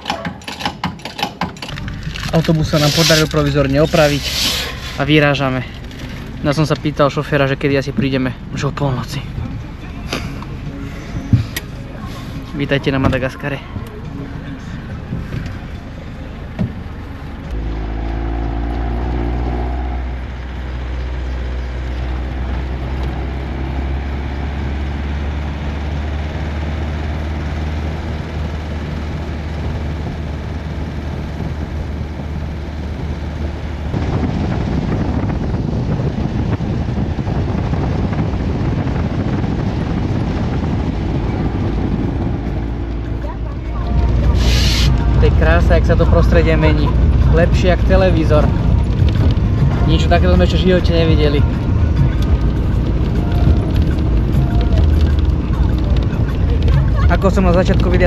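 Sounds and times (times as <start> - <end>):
bus engine running: 0.0 - 58.0
road noise: 0.0 - 58.0.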